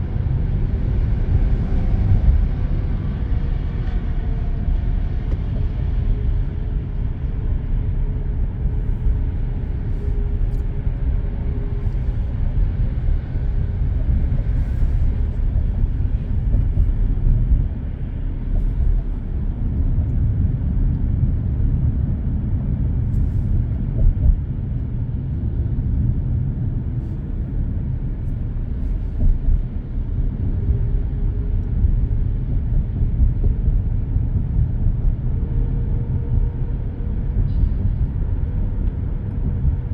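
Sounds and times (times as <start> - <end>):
car road rumble inside cabin: 0.0 - 39.9.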